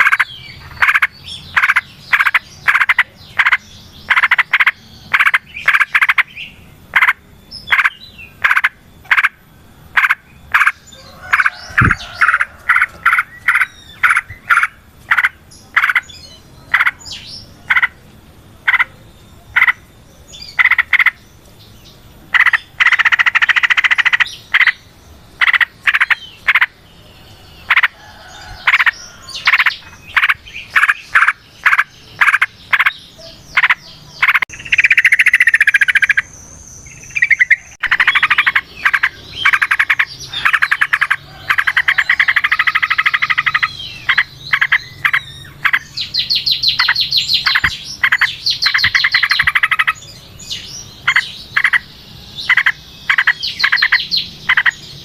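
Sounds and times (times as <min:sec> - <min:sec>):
bird fast chattering: 0:00.0 - 0:09.4, 0:10.0 - 0:18.0, 0:18.6 - 0:21.2, 0:22.3 - 0:26.8, 0:27.6 - 0:28.0, 0:28.6 - 0:54.9.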